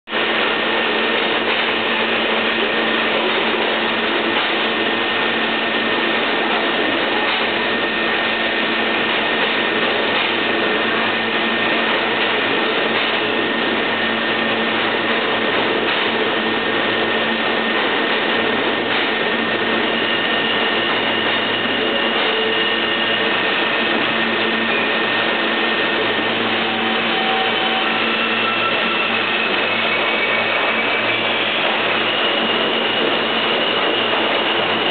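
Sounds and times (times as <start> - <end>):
higher train tones: 0.1 - 34.9
subway train equipment hum: 0.1 - 34.9
thin steady whine: 0.2 - 34.9.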